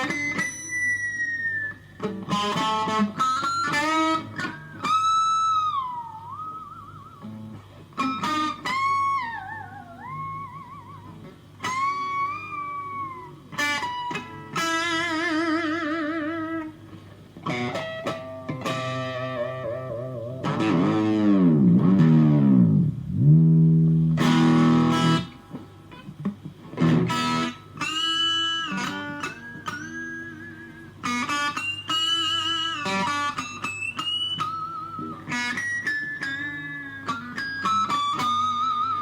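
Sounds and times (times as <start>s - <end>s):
electric guitar: 0.0s - 39.0s.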